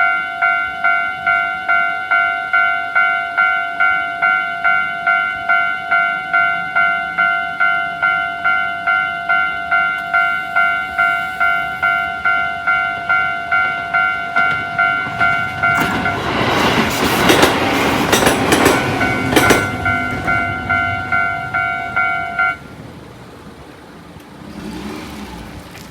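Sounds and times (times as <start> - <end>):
level crossing warning bell: 0.0 - 23.4
train passing: 0.0 - 25.8.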